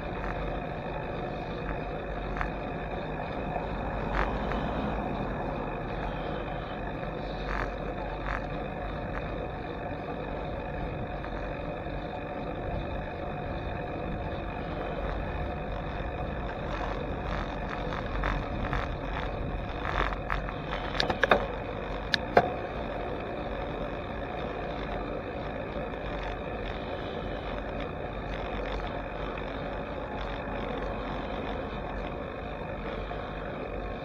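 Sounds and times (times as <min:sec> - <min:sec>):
bicycle rolling on asphalt: 0:00.0 - 0:34.0.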